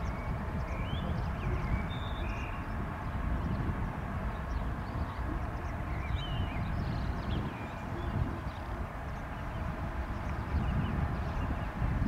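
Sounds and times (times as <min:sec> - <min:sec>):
small birds chirping: 0:00.0 - 0:12.0
wind rumble on microphone: 0:00.0 - 0:12.0.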